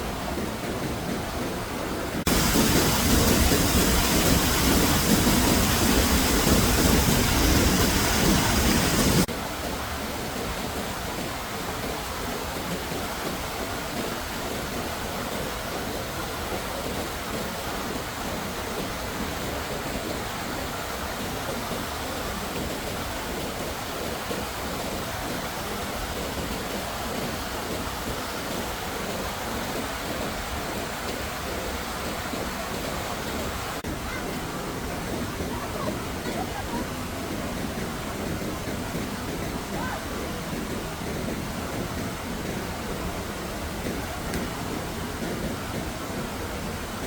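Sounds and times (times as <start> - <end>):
heavy water rushing: 0.0 - 47.0.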